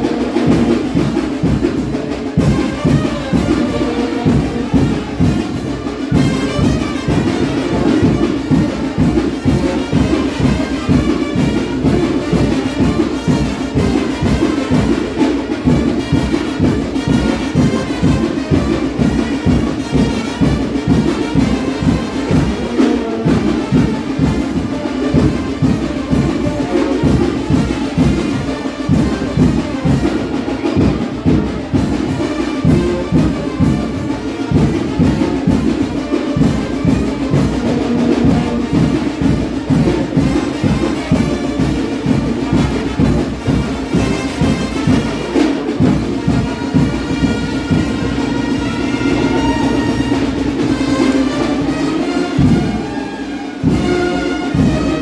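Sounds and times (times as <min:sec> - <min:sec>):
brass band playing: 0:00.0 - 0:55.0
driving drum beat: 0:00.0 - 0:55.0.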